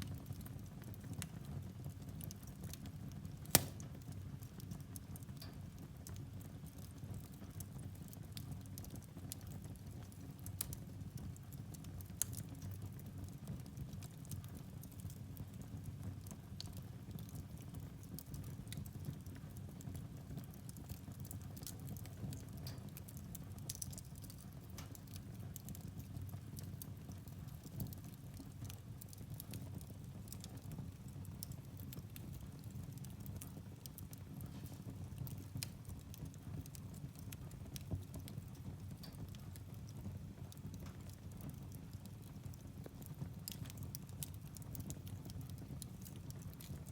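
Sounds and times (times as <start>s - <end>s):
firewood crackling and popping: 0.0s - 46.9s
low rumble of fire: 0.0s - 46.9s.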